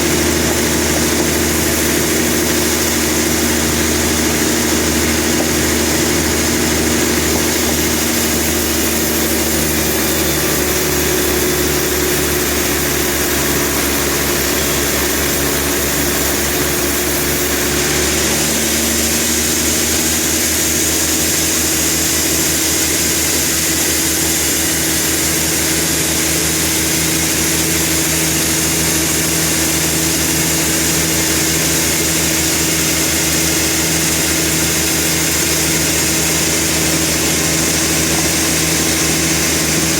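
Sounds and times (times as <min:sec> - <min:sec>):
sawmill machinery engine running: 0:00.0 - 0:39.9.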